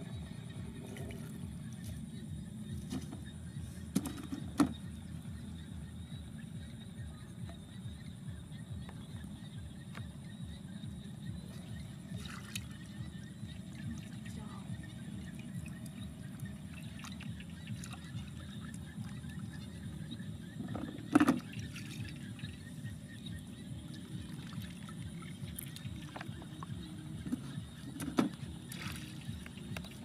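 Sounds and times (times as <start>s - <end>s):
low rumble: 0.0s - 29.8s.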